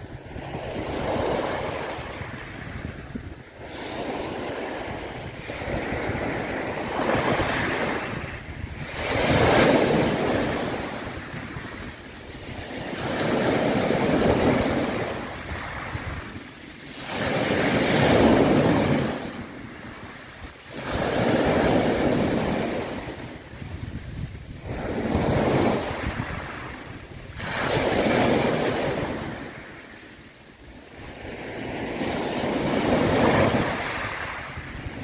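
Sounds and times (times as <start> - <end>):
ocean waves washing: 0.0 - 35.0.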